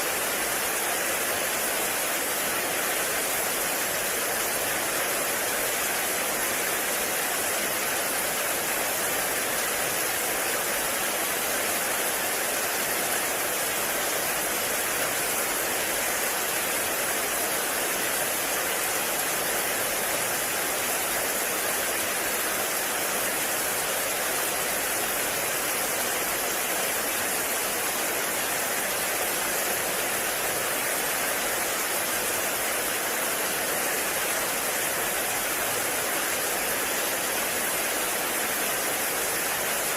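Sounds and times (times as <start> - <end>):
heavy rain in forest: 0.0 - 39.9.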